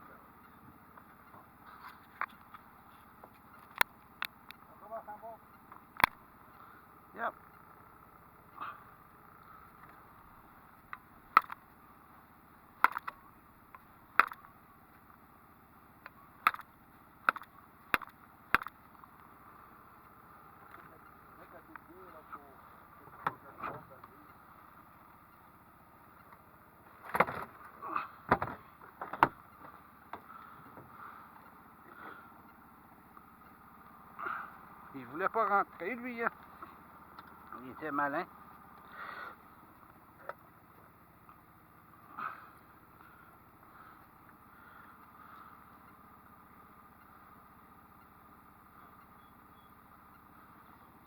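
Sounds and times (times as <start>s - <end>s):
outboard motor running: 0.0s - 51.0s.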